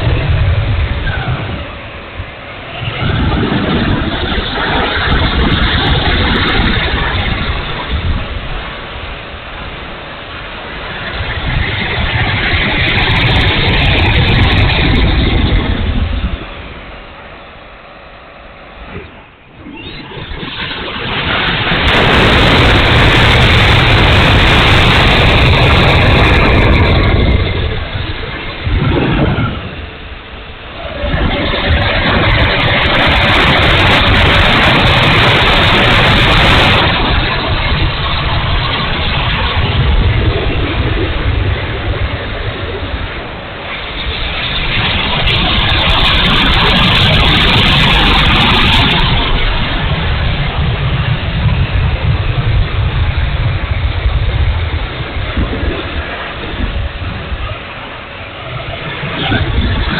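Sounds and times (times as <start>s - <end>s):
electric ducted fan whine: 0.0s - 59.9s
low uneven rumble: 0.0s - 59.9s.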